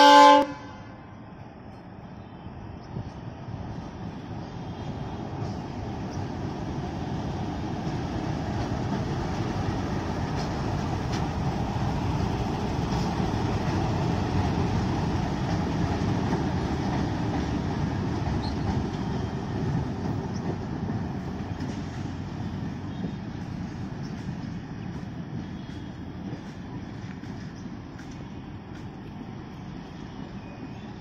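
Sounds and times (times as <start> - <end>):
diesel locomotive train running: 0.0 - 31.0.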